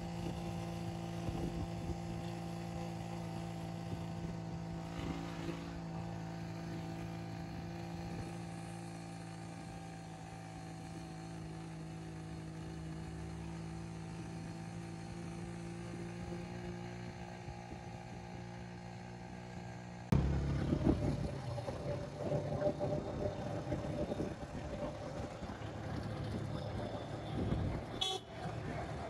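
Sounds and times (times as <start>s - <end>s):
rattling road and wind noise: 0.0s - 29.0s
vehicle engine running: 0.0s - 29.0s.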